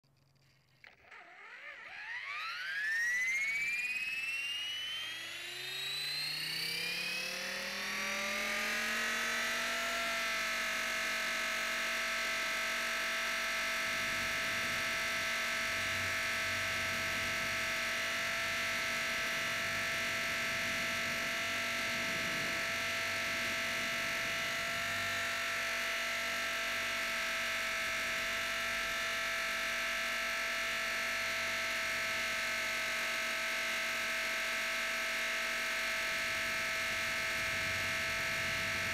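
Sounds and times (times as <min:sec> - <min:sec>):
rc helicopter motor whine: 0:00.1 - 0:38.9.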